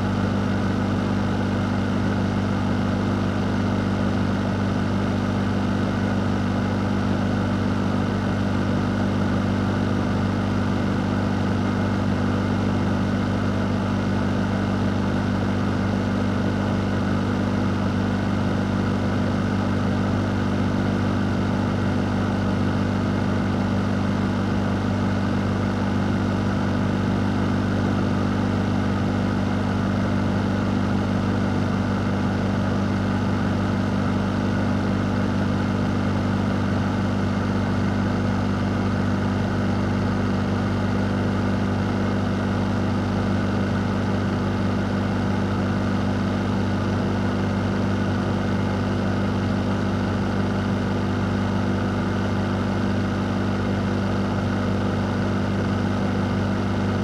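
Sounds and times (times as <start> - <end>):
fan running: 0.0 - 57.0.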